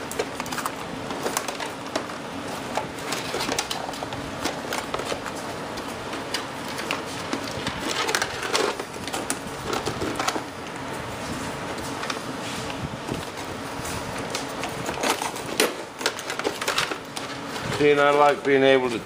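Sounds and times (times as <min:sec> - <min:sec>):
hands handling wires and parts: 0:00.0 - 0:11.0, 0:11.6 - 0:18.6.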